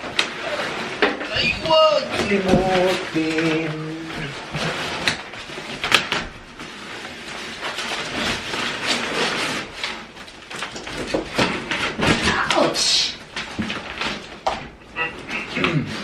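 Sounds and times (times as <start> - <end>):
cardboard scraping and rubbing: 0.0 - 16.0.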